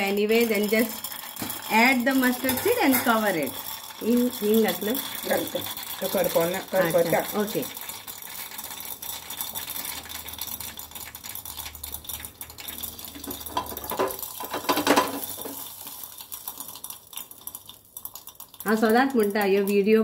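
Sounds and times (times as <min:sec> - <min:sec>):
mustard seeds popping in oil: 0:00.0 - 0:20.0.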